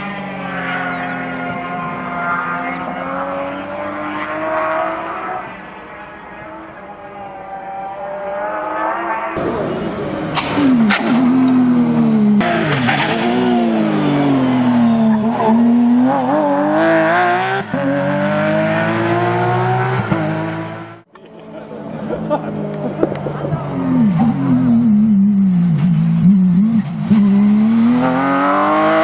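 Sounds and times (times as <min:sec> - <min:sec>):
car engine revving hard: 0:00.0 - 0:06.8, 0:08.0 - 0:29.0.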